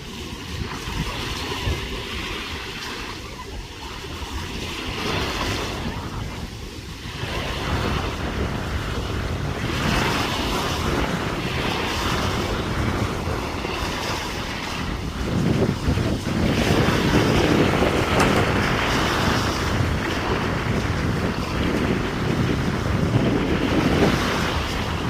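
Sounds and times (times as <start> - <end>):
sea surf: 0.0 - 25.0
wind buffeting microphone: 0.0 - 25.0.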